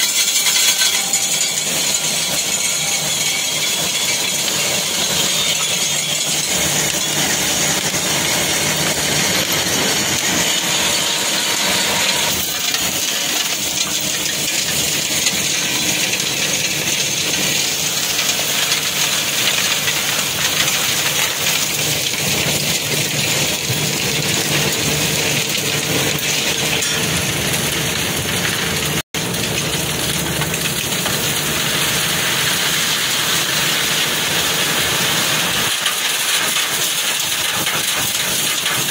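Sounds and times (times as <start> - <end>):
conveyor rattling crushed stone: 0.0 - 38.9.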